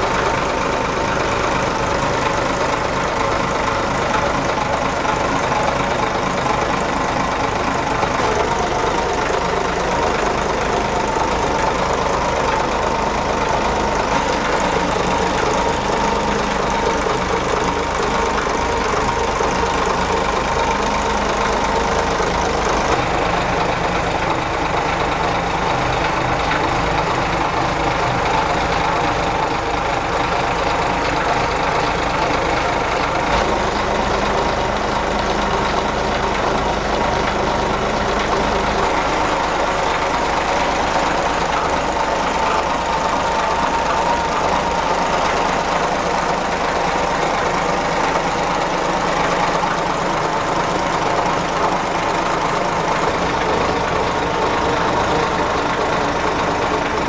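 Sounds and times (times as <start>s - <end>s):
marine diesel engine idling: 0.0s - 57.0s.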